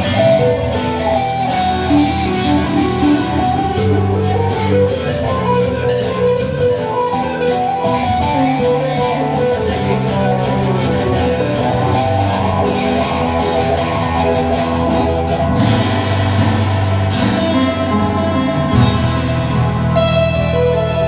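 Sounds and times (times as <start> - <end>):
acoustic guitars playing: 0.0 - 21.0
ticking beat: 0.0 - 21.0.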